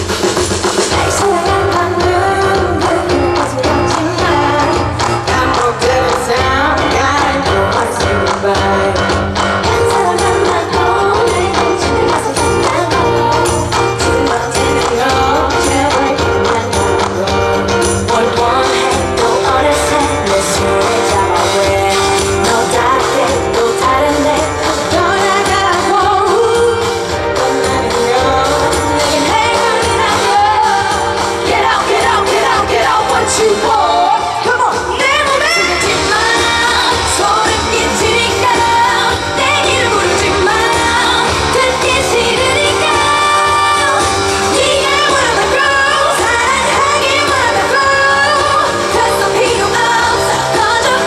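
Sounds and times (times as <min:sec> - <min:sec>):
amplified pop backing with beat: 0:00.0 - 0:51.0
woman singing into a microphone: 0:00.8 - 0:51.0.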